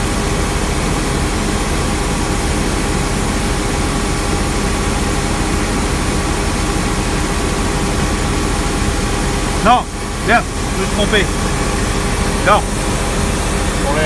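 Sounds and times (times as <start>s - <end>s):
street sweeper engine running: 0.0s - 14.0s.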